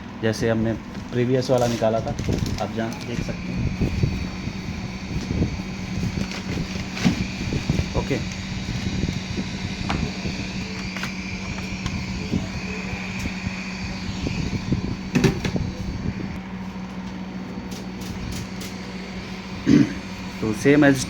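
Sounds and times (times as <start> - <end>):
hot-air station blowing: 0.0 - 21.0.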